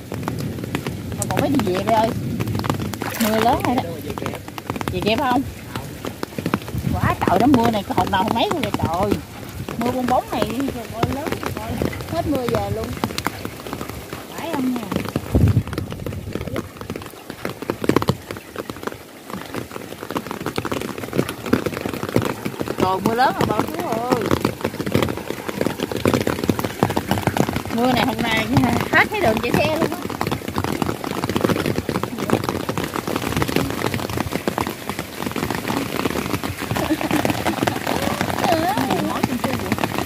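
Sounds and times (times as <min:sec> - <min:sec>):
hiss of heavy rain: 0:00.0 - 0:40.0
raindrops ticking on surface: 0:00.0 - 0:40.0.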